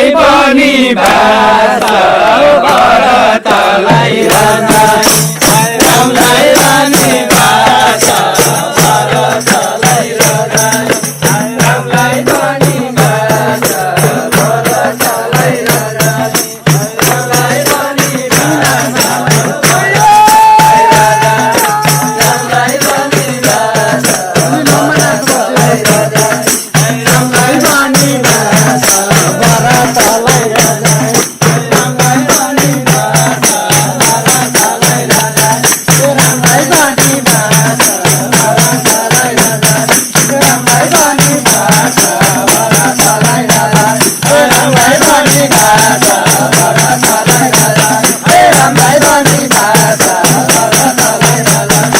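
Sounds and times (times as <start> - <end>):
fast steady percussion: 0.0 - 51.9
group singing a chant: 0.0 - 51.9.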